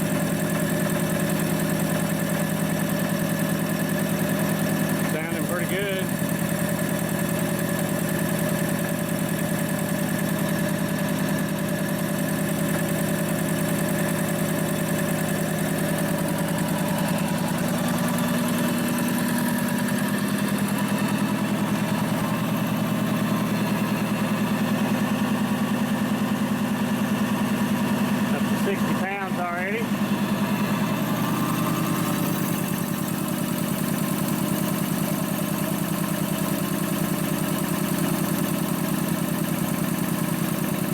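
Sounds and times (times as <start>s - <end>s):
air compressor pulsing: 0.0s - 40.9s.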